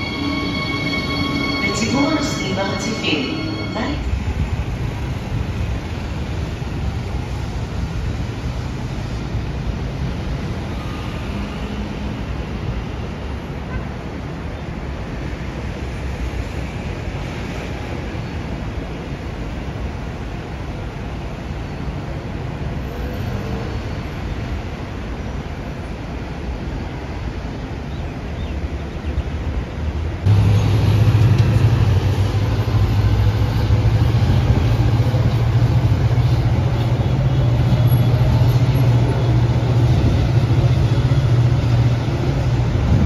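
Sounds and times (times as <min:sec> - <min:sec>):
highway traffic rushing: 0:00.0 - 0:43.0.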